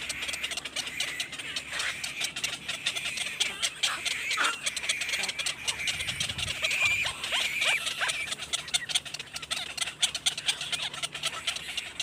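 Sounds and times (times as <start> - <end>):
animal clicks and chirps: 0.0 - 12.0.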